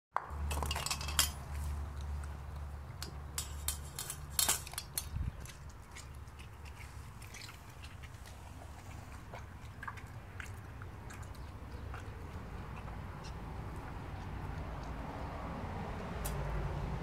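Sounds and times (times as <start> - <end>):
puppy chewing meat: 1.4 - 3.4, 5.2 - 17.0.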